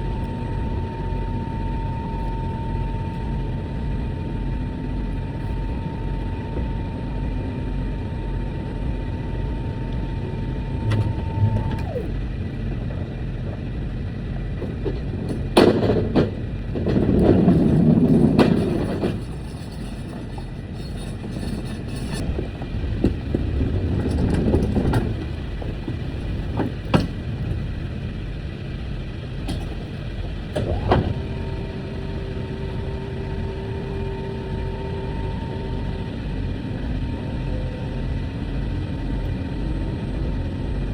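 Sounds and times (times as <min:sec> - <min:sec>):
truck engine and road rumble: 0:00.0 - 0:40.9.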